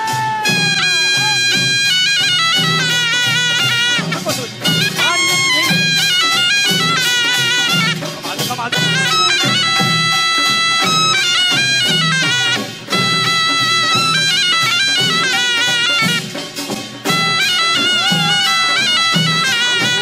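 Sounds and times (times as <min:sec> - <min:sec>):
double-reed shawm melody: 0:00.0 - 0:20.0
steady drum beat: 0:00.0 - 0:20.0.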